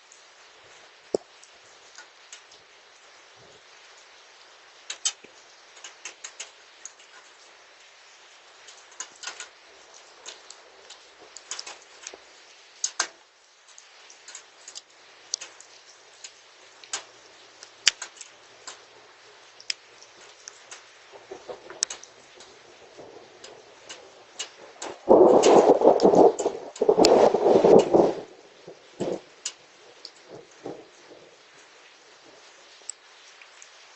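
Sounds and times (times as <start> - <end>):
hailstones ticking: 0.0 - 4.1, 4.7 - 33.9
rain hissing: 0.0 - 33.9.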